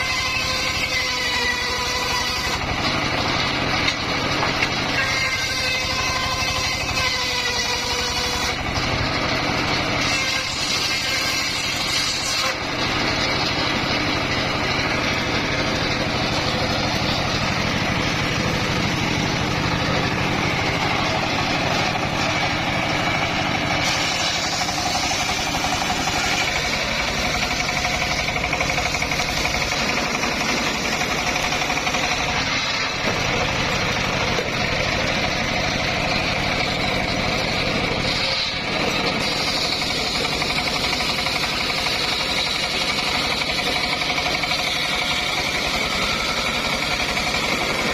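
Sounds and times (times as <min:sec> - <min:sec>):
circular saw engine running: 0:00.0 - 0:47.9.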